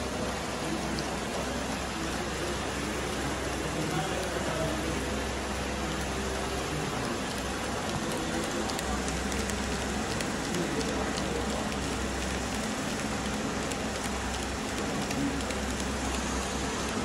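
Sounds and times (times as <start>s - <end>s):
machine hissing and humming: 0.0s - 17.0s.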